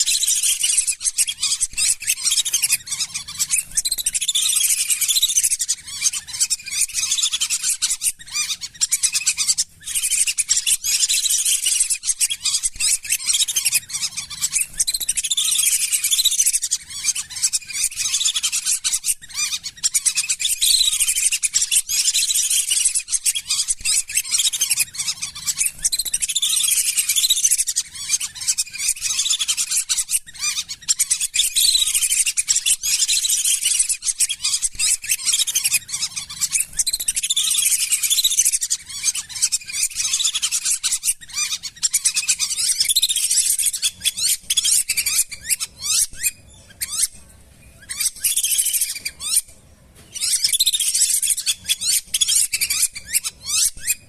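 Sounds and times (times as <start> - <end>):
ducks whistling and chirping: 0.0 - 54.0.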